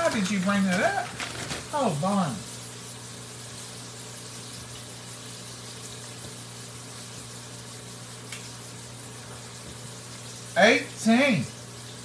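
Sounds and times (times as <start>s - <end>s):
livers sizzling in a skillet: 0.0s - 12.0s.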